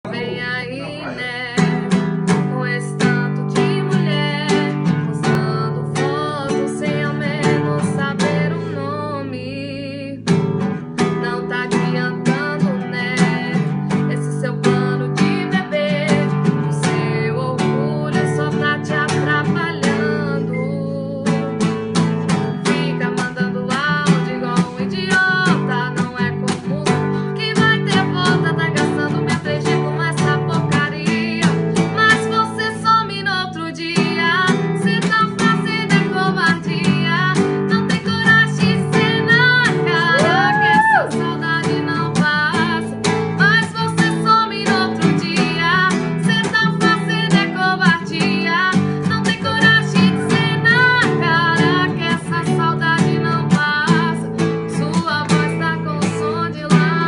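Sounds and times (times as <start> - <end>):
acoustic guitar strumming: 0.0 - 57.0
woman singing: 0.0 - 57.0.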